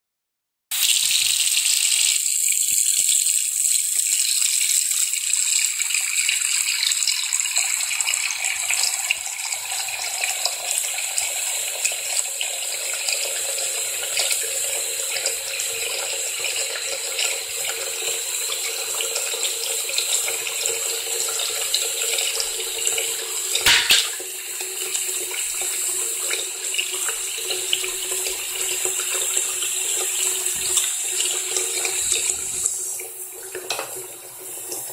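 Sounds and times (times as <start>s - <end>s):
faucet running into a sink: 0.7s - 34.9s.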